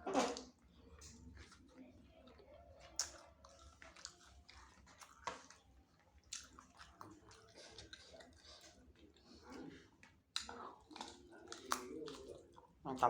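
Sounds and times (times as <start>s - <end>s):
chewing and biting food: 0.4s - 13.0s.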